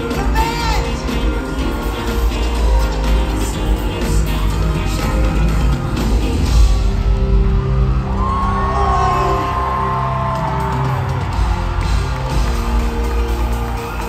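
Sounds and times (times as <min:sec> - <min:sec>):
live pop music over sound system: 0:00.0 - 0:14.0.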